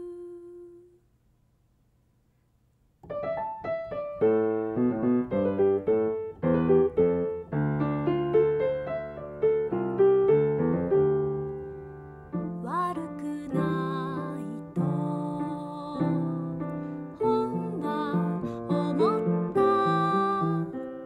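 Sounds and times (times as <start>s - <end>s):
piano melody over chords: 3.0s - 21.0s.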